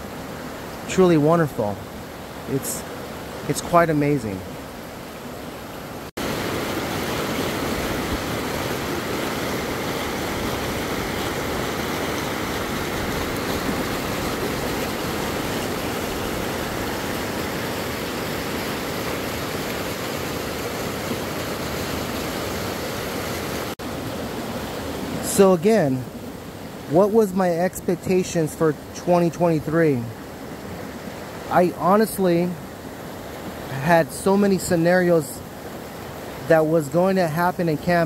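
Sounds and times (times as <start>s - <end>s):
water rushing over boulders: 0.0s - 38.0s.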